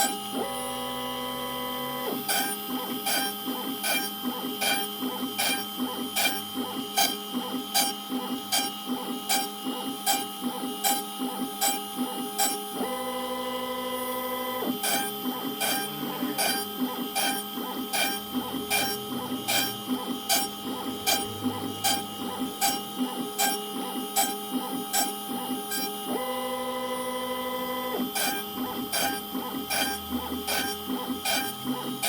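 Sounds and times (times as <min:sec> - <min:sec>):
cnc router mechanical hum: 0:00.0 - 0:32.0.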